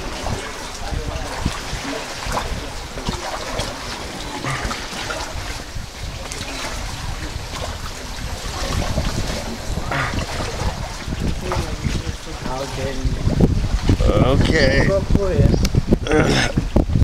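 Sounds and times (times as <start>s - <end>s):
small water splashes: 0.0s - 15.0s
water trickling and dripping: 0.0s - 16.6s.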